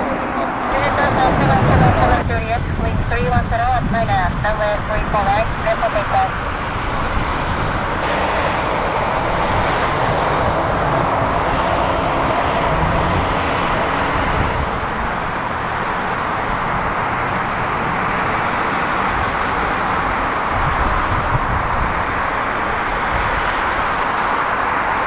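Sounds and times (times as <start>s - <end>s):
jet engines at takeoff: 0.0s - 25.0s.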